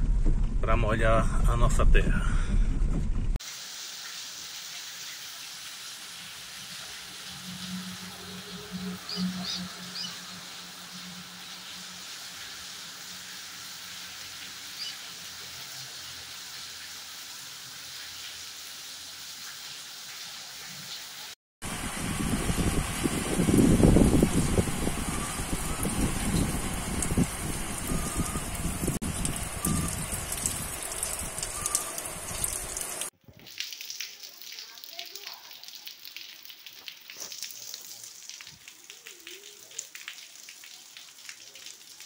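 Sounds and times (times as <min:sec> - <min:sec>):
rain hissing: 0:03.4 - 0:42.0.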